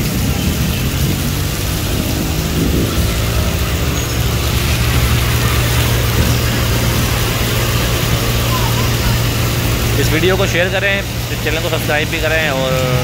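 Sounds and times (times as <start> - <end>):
heavy rain on a road: 0.0 - 13.0
traffic driving through water: 0.0 - 13.0
vehicle engine humming: 0.0 - 13.0.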